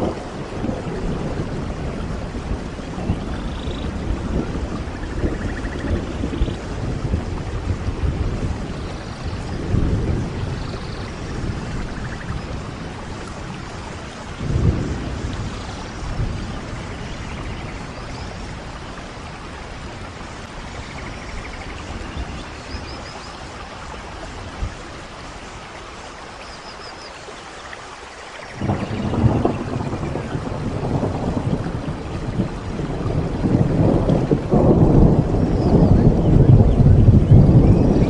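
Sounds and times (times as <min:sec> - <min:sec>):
low thunder rolls: 0:00.0 - 0:25.4, 0:28.5 - 0:38.0
steady rain falling: 0:00.0 - 0:38.0.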